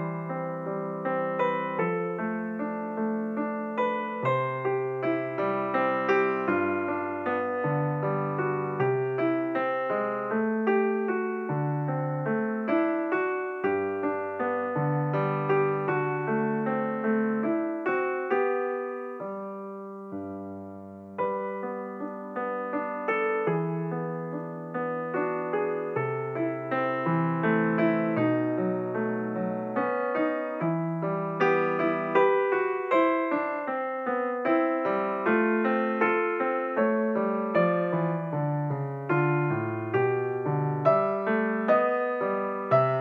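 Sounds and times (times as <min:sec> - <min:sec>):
gentle piano music: 0:00.0 - 0:43.0.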